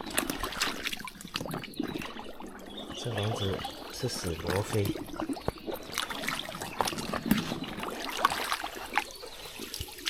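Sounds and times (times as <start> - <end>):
water splashing and dripping: 0.0 - 10.0.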